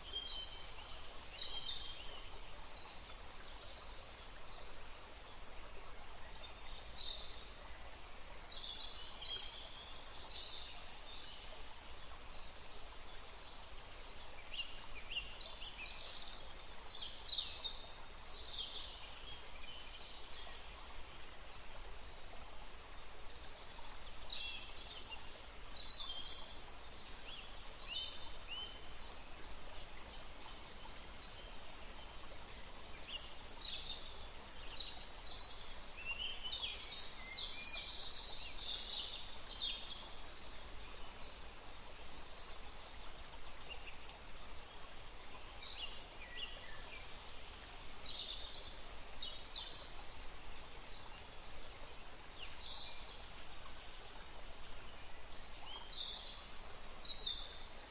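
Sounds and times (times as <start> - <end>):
outdoor ambient hiss: 0.0 - 57.9.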